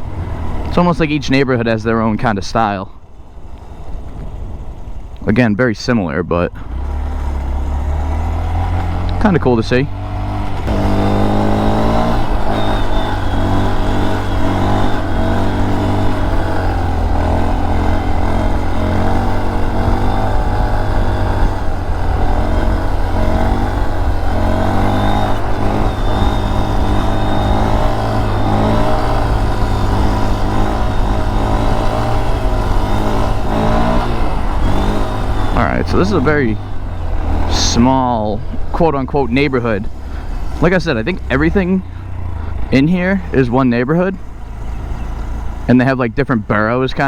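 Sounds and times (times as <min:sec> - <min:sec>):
mini motorcycle engine revving: 0:06.6 - 0:45.9.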